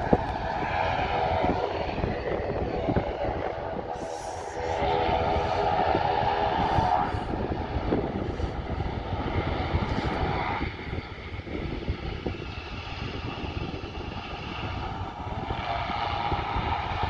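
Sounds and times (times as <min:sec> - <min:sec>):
jet engine whine: 0:00.0 - 0:17.0
jet engines rushing: 0:00.0 - 0:17.0
wind buffeting microphone: 0:00.0 - 0:17.0.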